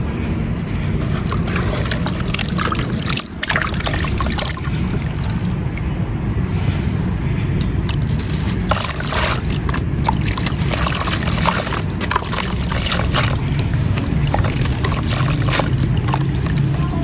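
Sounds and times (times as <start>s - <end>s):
steady low rumble: 0.0s - 17.0s
wet grit crunching in water: 0.5s - 17.0s.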